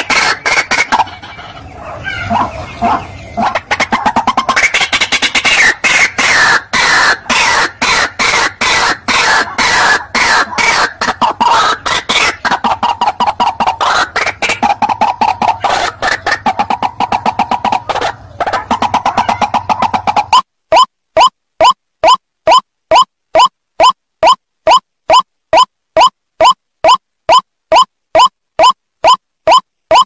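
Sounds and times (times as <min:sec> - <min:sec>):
bird harsh repeated calls: 0:00.0 - 0:30.0.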